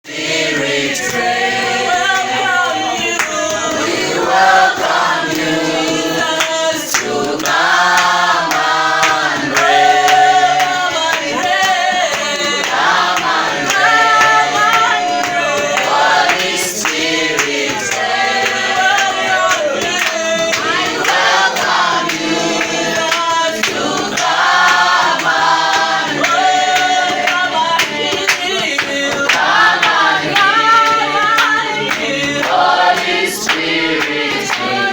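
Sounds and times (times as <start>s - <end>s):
church choir singing: 0.0s - 34.9s.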